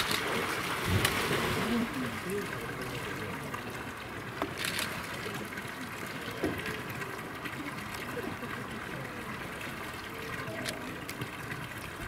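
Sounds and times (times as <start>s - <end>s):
water splashing into a pool: 0.0s - 12.0s.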